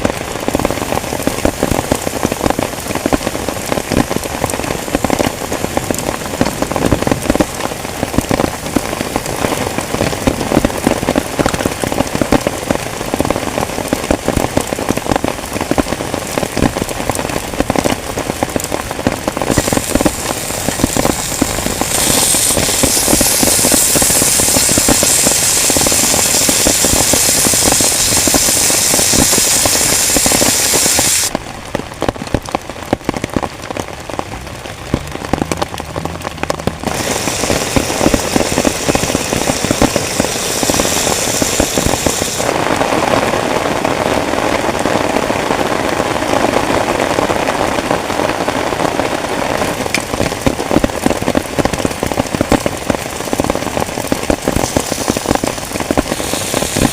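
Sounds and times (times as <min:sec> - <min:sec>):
heavy rain pattering on tent: 0:00.0 - 0:56.9.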